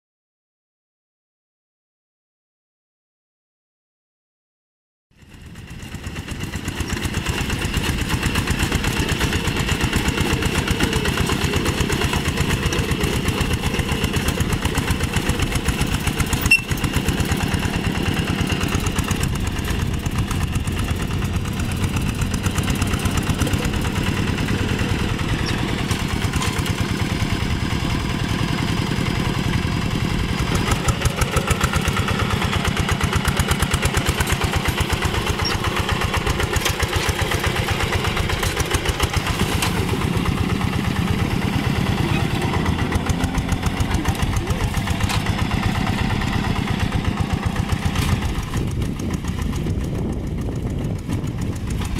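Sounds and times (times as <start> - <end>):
hand tractor diesel engine: 5.2 - 51.9.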